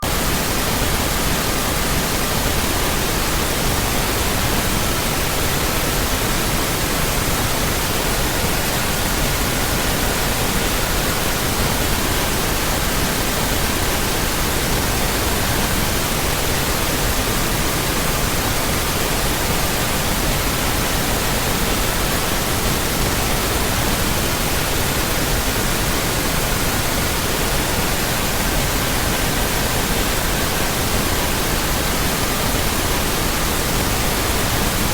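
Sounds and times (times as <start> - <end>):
pink noise hiss: 0.0 - 34.9.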